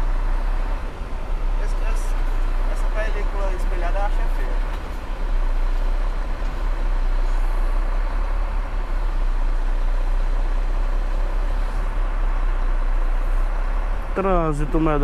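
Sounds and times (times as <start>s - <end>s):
road and wind noise: 0.0s - 15.0s
truck engine rumble: 0.0s - 15.0s.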